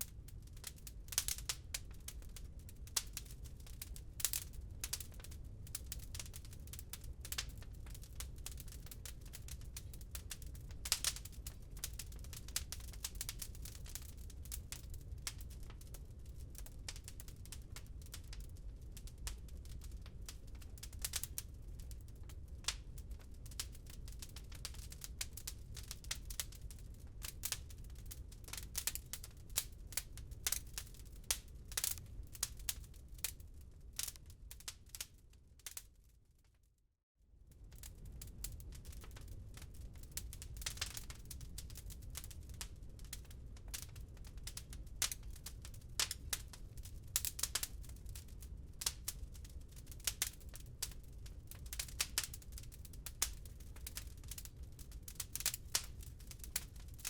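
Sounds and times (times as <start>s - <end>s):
wood fire crackling: 0.0s - 36.5s, 37.5s - 57.0s.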